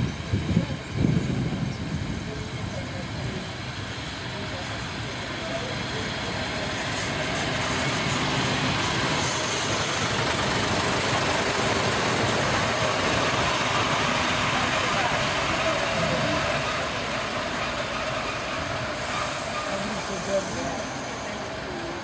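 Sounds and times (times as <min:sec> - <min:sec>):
diesel train engine: 0:00.0 - 0:22.0
train wheels on rails: 0:00.0 - 0:22.0.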